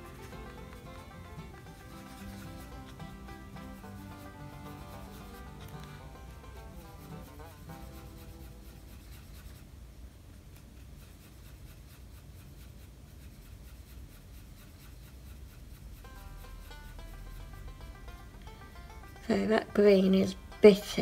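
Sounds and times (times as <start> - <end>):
paintbrush scrubbing a surface: 0.0 - 21.0.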